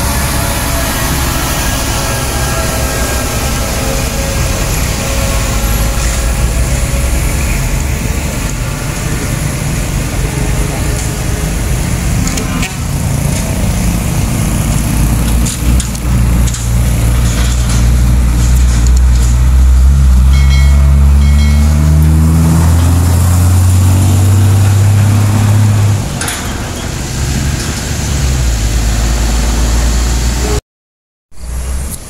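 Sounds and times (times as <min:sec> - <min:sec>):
diesel truck engine under load: 0:00.0 - 0:30.6.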